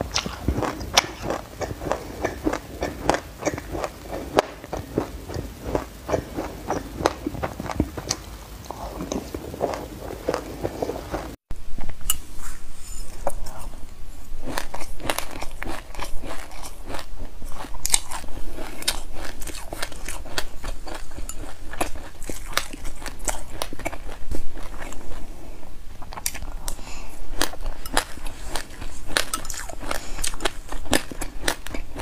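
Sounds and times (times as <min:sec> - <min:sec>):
chewing with sharp crunches: 0:00.0 - 0:11.4, 0:14.4 - 0:32.0.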